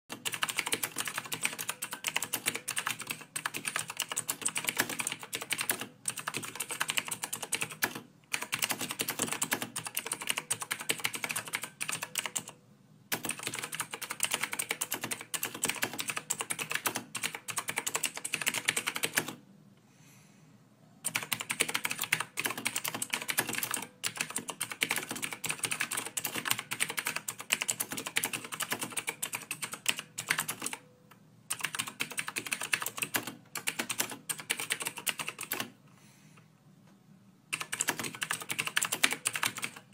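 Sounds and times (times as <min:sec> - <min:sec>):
fast typing on keyboard: 0:00.1 - 0:19.4, 0:21.0 - 0:30.8, 0:31.5 - 0:35.7, 0:37.5 - 0:39.9.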